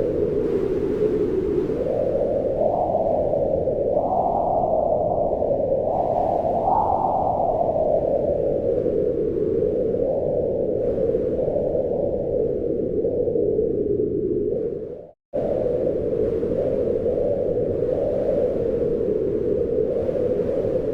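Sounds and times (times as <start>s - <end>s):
wind blowing in gusts: 0.0s - 20.9s.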